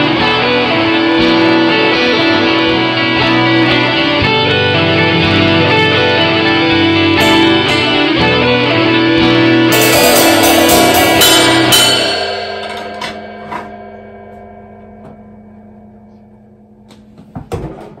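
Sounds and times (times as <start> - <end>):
guitar chord ringing: 0.0 - 17.3.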